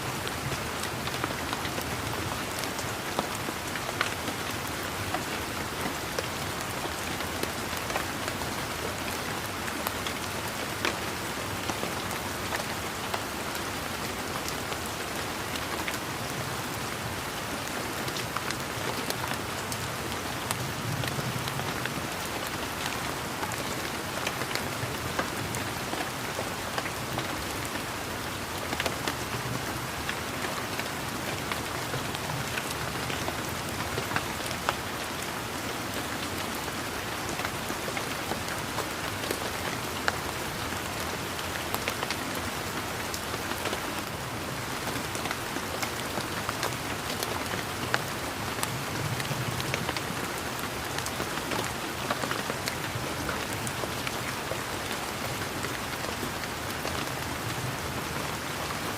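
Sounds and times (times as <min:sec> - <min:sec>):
rain pattering on leaves: 0:00.0 - 0:58.9.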